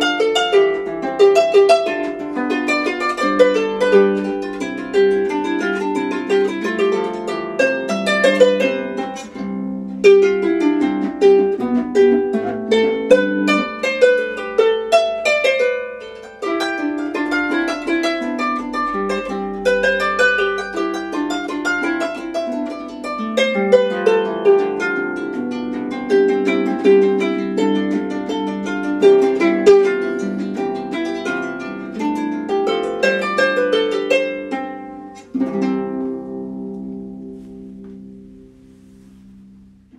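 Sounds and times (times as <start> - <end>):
harp playing arpeggios: 0.0 - 39.9.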